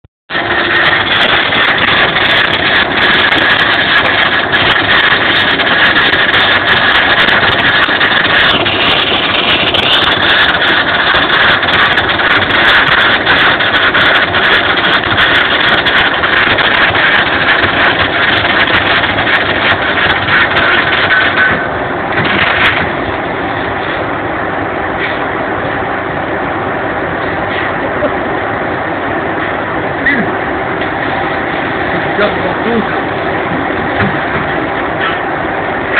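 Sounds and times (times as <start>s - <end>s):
low steady hum: 0.3s - 35.9s
welding arc crackling: 0.3s - 35.9s.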